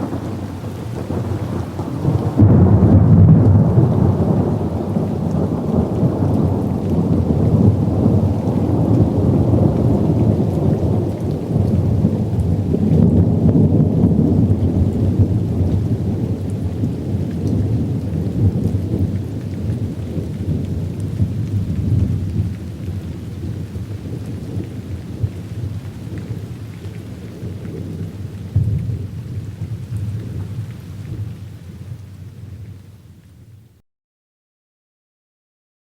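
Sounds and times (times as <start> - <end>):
rolling thunder: 0.0 - 32.7
steady rain: 0.0 - 33.8.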